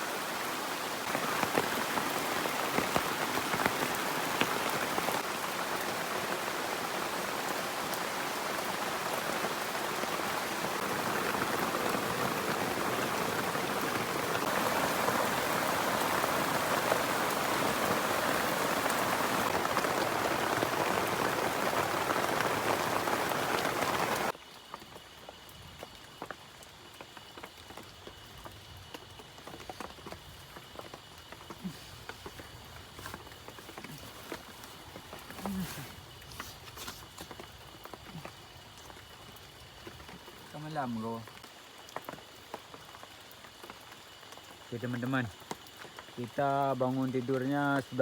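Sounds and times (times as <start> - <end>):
heavy rain on leaf shelter: 0.0 - 48.0
louder raindrops: 0.0 - 48.0.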